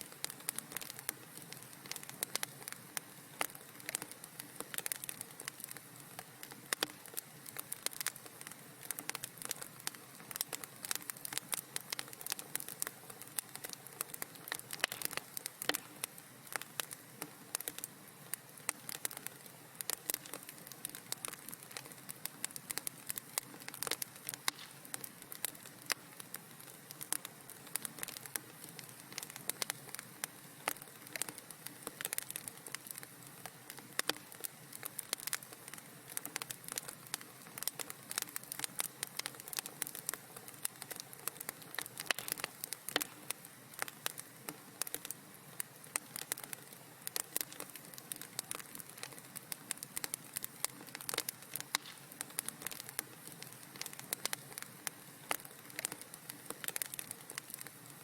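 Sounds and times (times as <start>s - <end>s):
fire crackling and popping: 0.0s - 58.0s
soft hiss: 0.0s - 58.0s.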